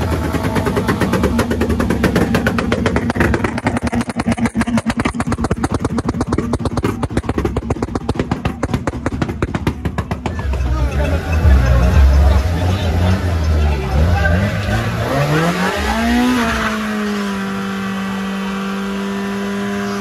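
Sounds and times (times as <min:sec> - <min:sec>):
loud pulsing vehicle engine: 0:00.0 - 0:20.0.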